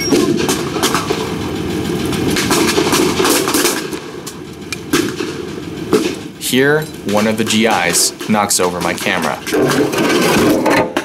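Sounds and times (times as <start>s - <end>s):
armored car engine rumbling: 0.0s - 11.0s
knocks and rustling: 0.0s - 11.0s.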